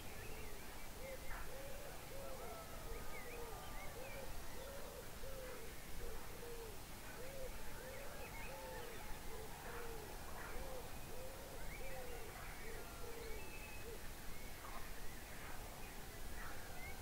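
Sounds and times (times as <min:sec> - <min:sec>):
low rounded bird calls: 0:00.0 - 0:17.0.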